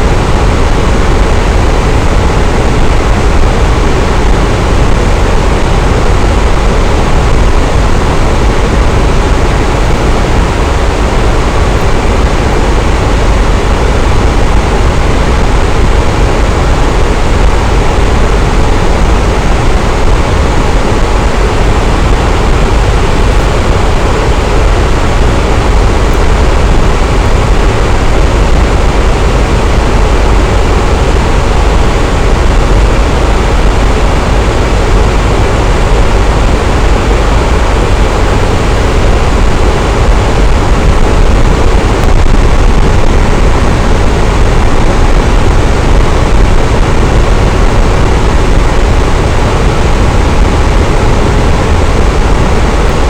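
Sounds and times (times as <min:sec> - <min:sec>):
electric fan running: 0:00.0 - 0:53.0.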